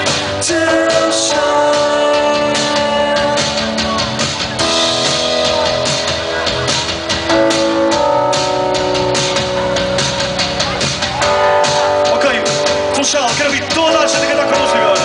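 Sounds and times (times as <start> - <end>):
drum kit: 0.0 - 15.0
guitar chords: 0.0 - 15.0.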